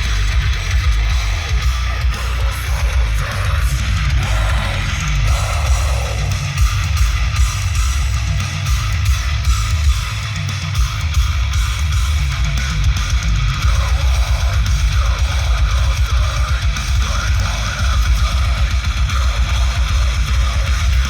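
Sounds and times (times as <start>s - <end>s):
heavy pounding bass: 0.0s - 21.0s
loud rock song with electric guitar: 0.0s - 21.0s.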